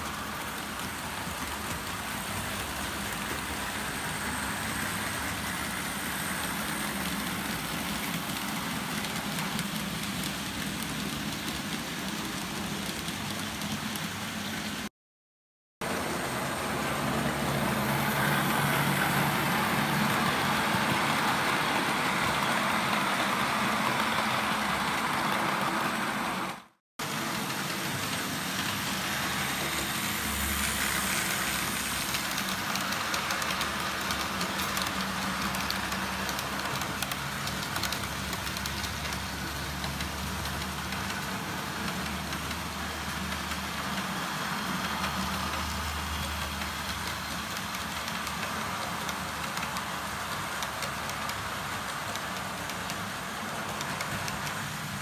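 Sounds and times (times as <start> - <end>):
model locomotives running on track: 0.0 - 14.9, 15.8 - 55.0.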